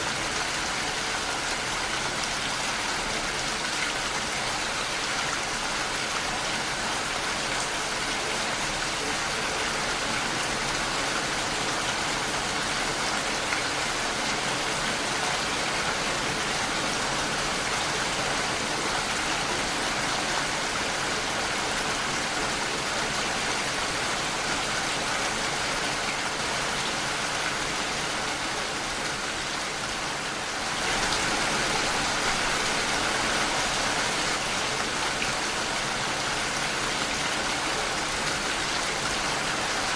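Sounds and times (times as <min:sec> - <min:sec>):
rain against a window: 0:00.0 - 0:39.9.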